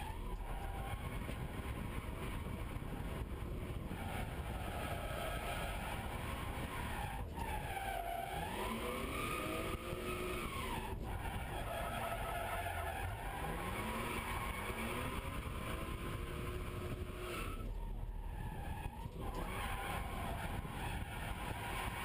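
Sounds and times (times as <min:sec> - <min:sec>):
car engine at high revs: 0:00.0 - 0:22.0
tyres skidding: 0:00.0 - 0:22.0.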